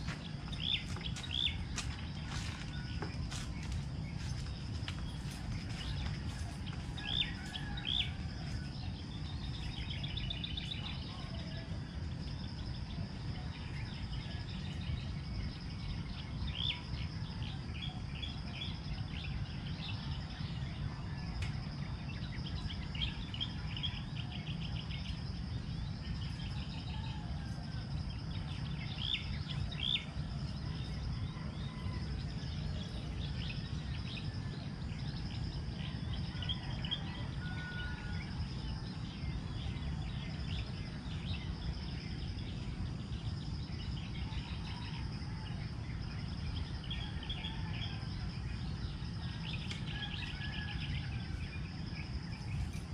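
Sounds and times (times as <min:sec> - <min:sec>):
high insect drone: 0:00.0 - 0:52.9.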